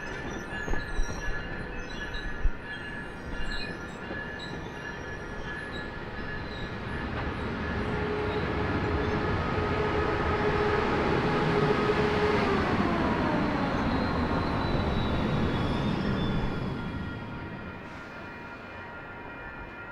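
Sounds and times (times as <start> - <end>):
train wheels squealing: 0.0 - 9.6, 11.7 - 19.9.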